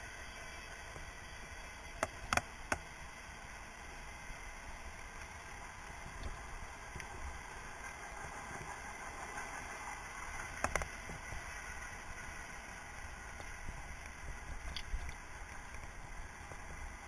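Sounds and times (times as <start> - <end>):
bike tyre and frame rumble: 0.0 - 17.0.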